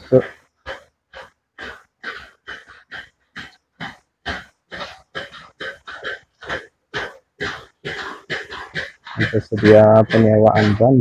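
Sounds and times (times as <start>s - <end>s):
footsteps on brick path: 0.0s - 11.0s.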